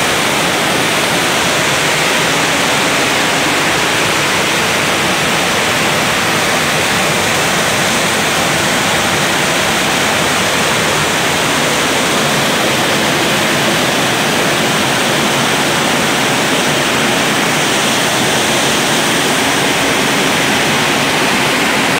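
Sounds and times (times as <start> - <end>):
floodwater rushing: 0.0 - 21.9
torrential rain: 0.0 - 21.9.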